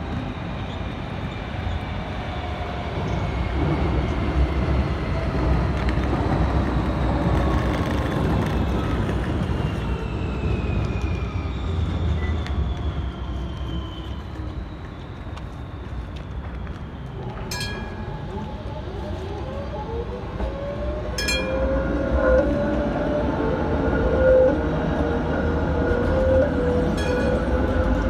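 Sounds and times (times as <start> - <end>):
tram rumble and hum: 0.0 - 28.0.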